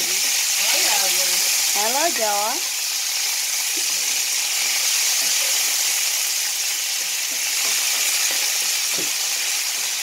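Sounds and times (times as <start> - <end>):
meat sizzling in oil: 0.0 - 10.0.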